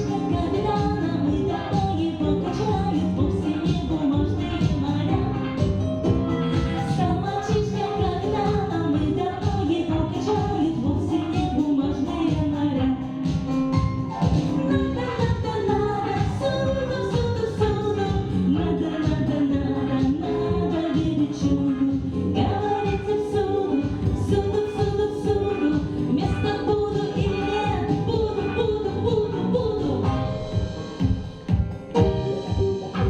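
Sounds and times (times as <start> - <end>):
woman singing: 0.0 - 13.8, 14.6 - 31.2
instrumental music with steady beat: 0.0 - 33.0.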